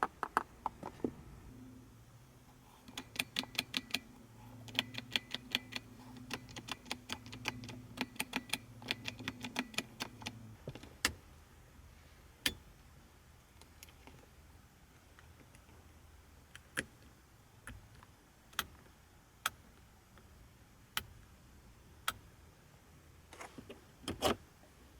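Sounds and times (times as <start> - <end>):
low electric hum: 0.0 - 24.9.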